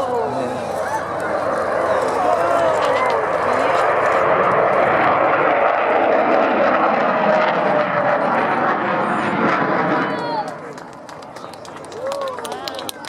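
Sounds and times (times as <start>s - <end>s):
jet bomber flying past: 0.0s - 13.0s.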